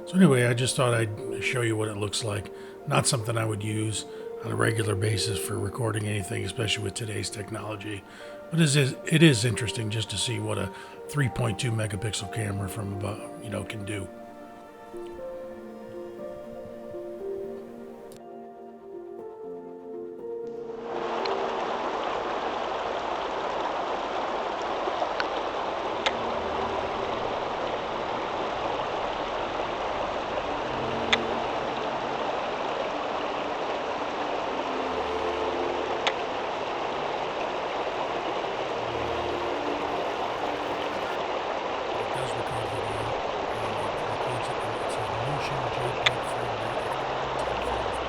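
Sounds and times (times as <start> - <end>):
soft background music: 0.0 - 48.0.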